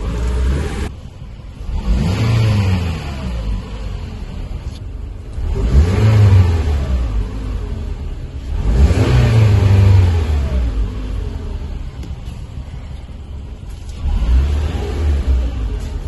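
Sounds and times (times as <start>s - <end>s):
car engine revving: 0.0s - 12.0s, 13.3s - 16.0s.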